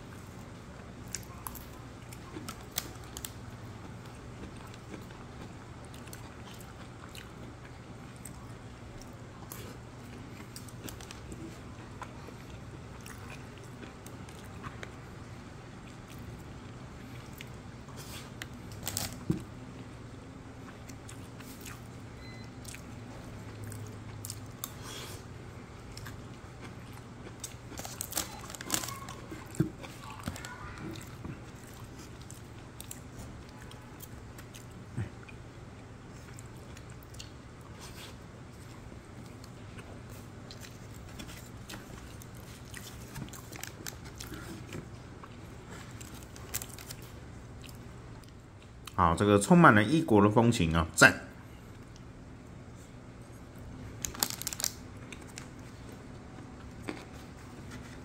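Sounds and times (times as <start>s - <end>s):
person chewing: 0.0s - 15.0s, 15.8s - 19.3s, 20.6s - 21.9s, 22.6s - 49.0s, 52.7s - 58.0s
steady low hum: 0.0s - 58.0s.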